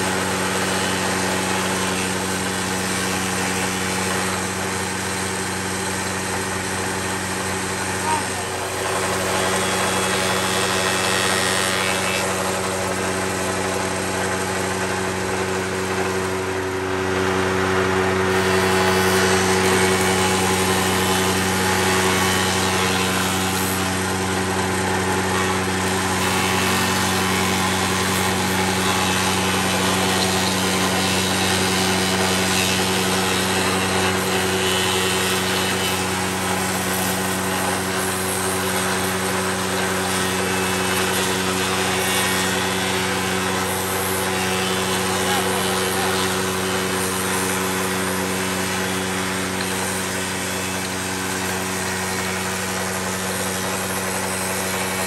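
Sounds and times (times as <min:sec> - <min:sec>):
cutter shaping wood: 0:00.0 - 0:55.0
spindle moulder motor hum: 0:00.0 - 0:55.0.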